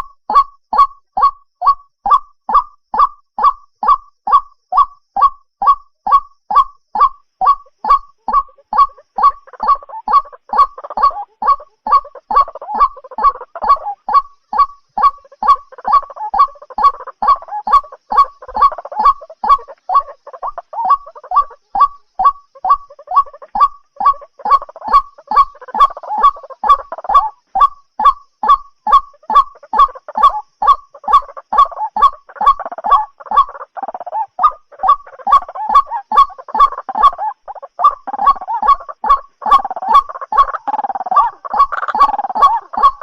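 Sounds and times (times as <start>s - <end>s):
rougher bird calling: 0.0s - 43.0s
waterhen honking call: 6.1s - 43.0s.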